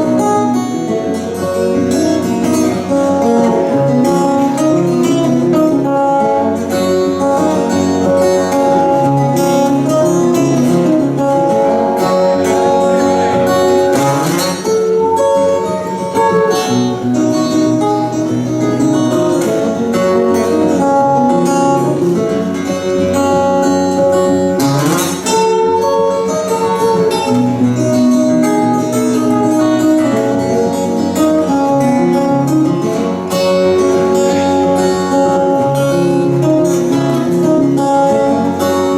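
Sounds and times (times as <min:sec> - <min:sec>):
acoustic guitars playing: 0:00.0 - 0:38.9
sweeping guitar strums: 0:00.0 - 0:38.9.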